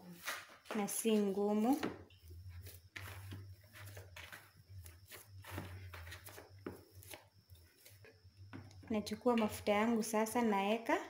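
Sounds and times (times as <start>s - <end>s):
hands kneading dough thuds: 0.1s - 10.0s.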